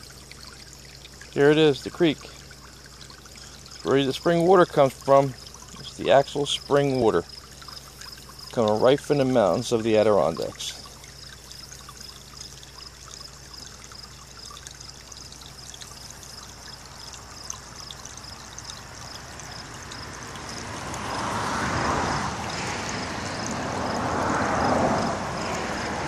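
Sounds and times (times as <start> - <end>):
creek trickling: 0.0 - 26.0.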